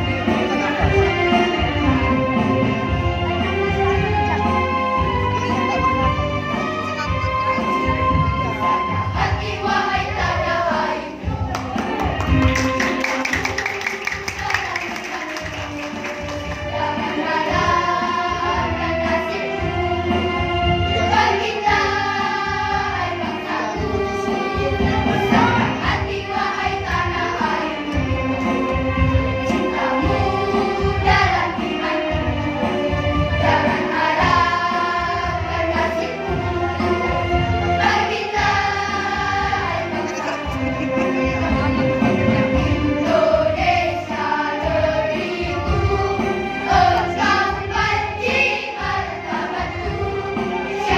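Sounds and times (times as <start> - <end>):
girls choir singing: 0.0 - 50.9.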